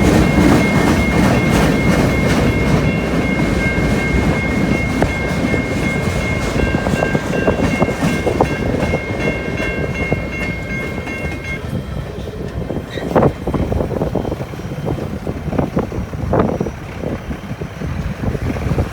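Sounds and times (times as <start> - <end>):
freight train wheels clattering: 0.0 - 18.9
wind buffeting microphone: 0.0 - 18.9.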